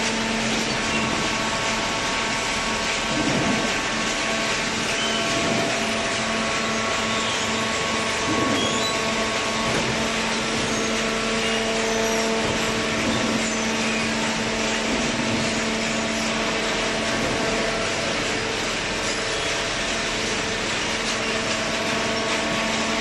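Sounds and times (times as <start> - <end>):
baler machinery running: 0.0 - 23.0.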